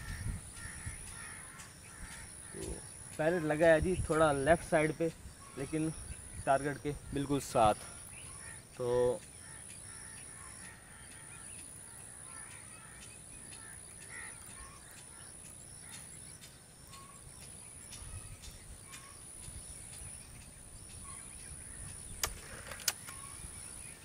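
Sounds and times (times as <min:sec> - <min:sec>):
birds calling: 0:00.0 - 0:24.0.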